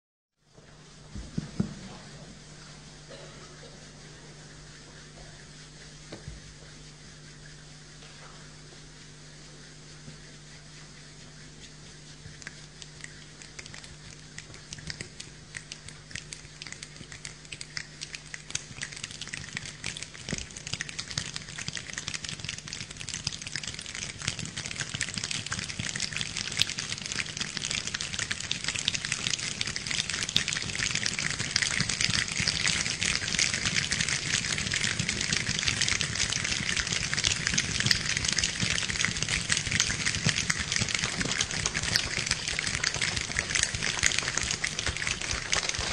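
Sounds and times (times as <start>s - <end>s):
choir making rain sounds with hands: 1.0s - 45.9s.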